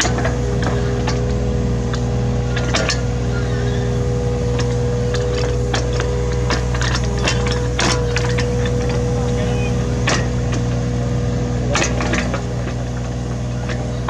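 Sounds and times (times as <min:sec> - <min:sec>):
sharp knocks and clanks: 0:00.0 - 0:11.0, 0:11.6 - 0:13.9
excavator diesel engine running: 0:00.0 - 0:14.0
high whine: 0:00.0 - 0:14.0.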